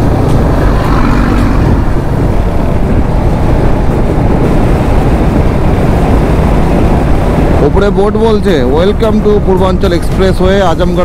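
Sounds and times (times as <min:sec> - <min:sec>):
motorcycle cruising: 0:00.0 - 0:11.0
wind rush: 0:00.0 - 0:11.0.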